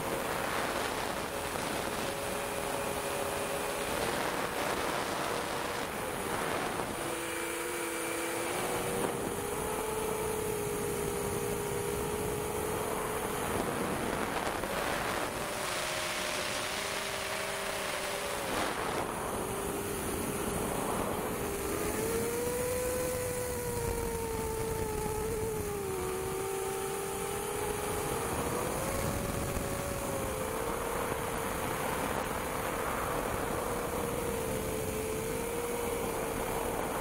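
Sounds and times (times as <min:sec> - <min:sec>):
drone motors whining: 0:00.0 - 0:37.0
wind rush: 0:00.0 - 0:37.0.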